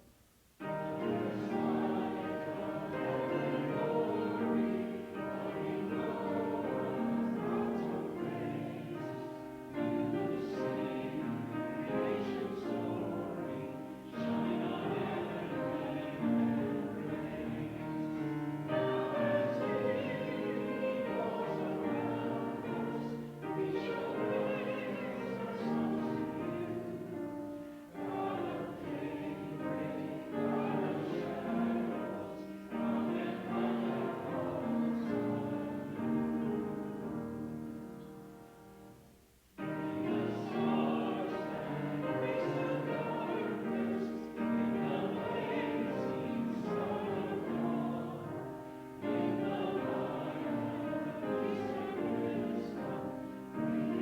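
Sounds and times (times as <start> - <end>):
congregation singing a hymn: 0.6 - 54.0.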